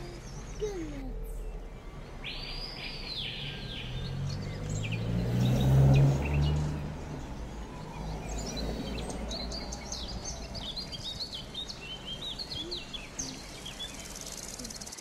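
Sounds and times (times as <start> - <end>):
low street noise rumble: 0.0 - 15.0
small birds chirping: 0.0 - 15.0.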